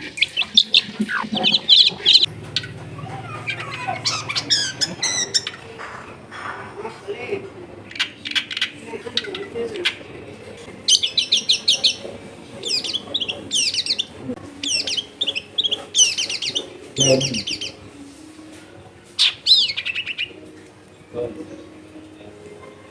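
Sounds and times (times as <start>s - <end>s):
shrike chattering calls: 0.0s - 21.9s.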